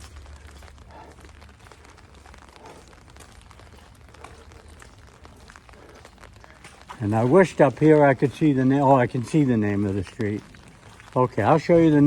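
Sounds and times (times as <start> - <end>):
rain pattering on umbrella: 0.0 - 12.0.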